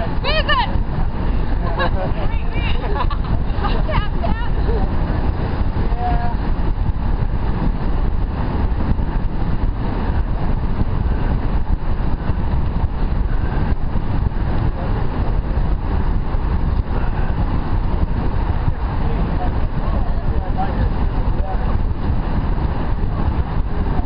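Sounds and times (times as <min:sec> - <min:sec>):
wind rush over microphone: 0:00.0 - 0:24.0.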